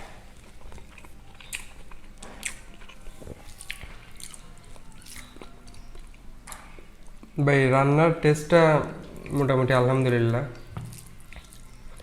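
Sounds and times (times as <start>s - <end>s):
person chewing: 0.0s - 7.4s, 9.0s - 12.0s.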